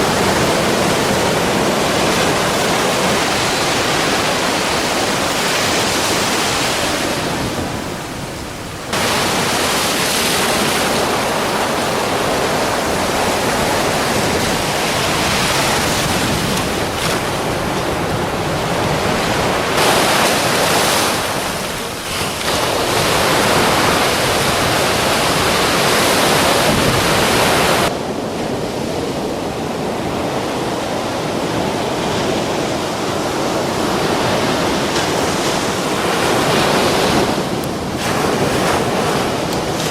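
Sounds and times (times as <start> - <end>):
sea waves breaking: 0.0 - 39.9
wind buffeting microphone: 0.0 - 39.9.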